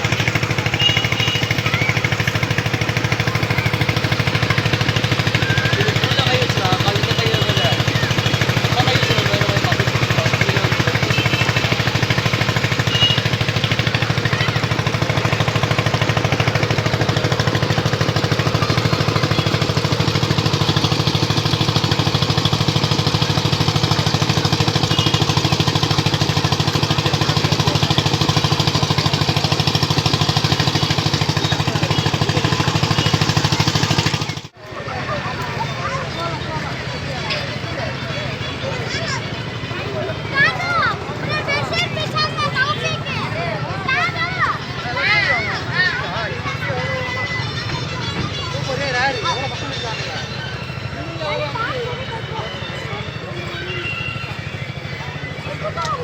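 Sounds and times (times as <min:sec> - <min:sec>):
engine chugging steadily: 0:00.0 - 0:56.0.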